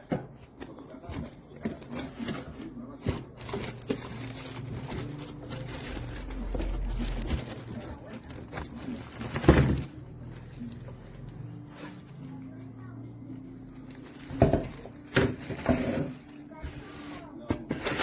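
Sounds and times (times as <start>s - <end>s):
packaging rustling and crinkling: 0.4s - 12.4s, 13.7s - 18.0s.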